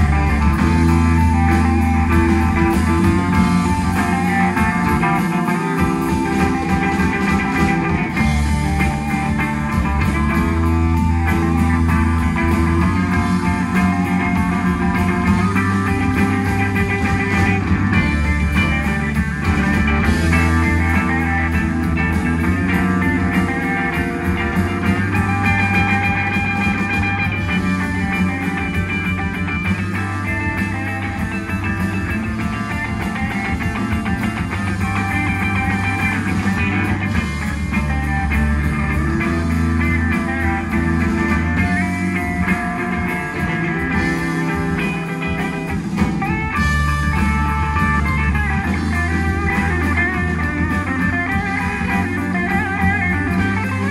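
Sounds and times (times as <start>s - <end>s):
electric guitar: 0.0s - 53.9s
steady bass: 0.0s - 53.9s.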